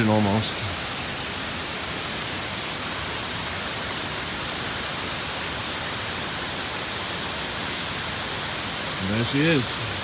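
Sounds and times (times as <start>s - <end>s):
roaring waterfall: 0.0s - 10.0s.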